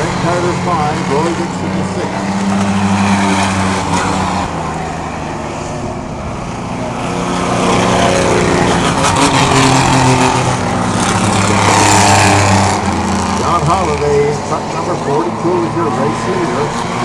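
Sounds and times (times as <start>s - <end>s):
race truck engines at speed: 0.0s - 17.0s.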